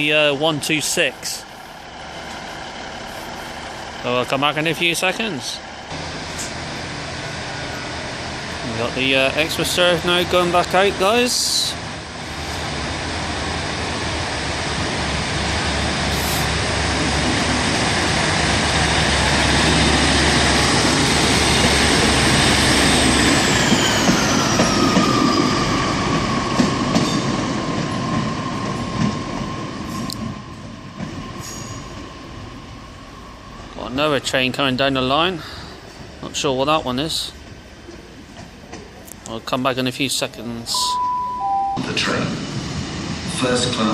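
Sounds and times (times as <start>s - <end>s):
diesel train passing: 0.0s - 43.9s.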